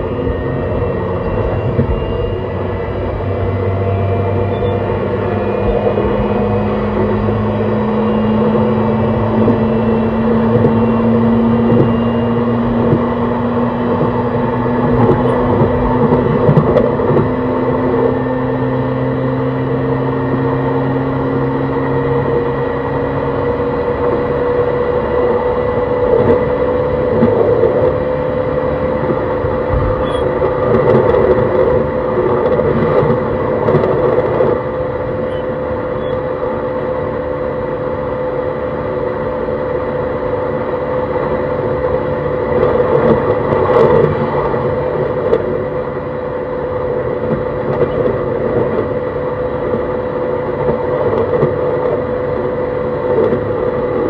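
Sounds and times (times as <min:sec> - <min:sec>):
electric train motor whine: 0:00.0 - 0:54.0
wheel on rail rumble: 0:00.0 - 0:54.0.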